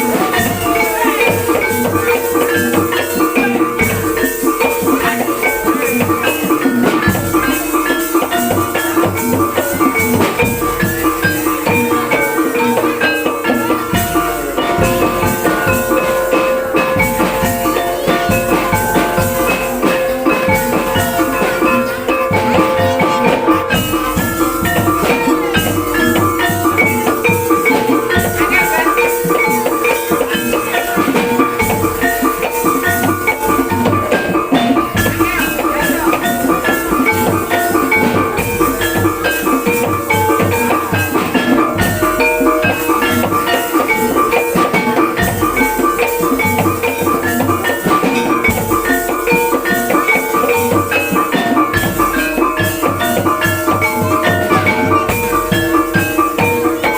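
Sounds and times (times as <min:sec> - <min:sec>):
drumming: 0:00.0 - 0:56.9
metallophones playing rapid notes: 0:00.0 - 0:56.9.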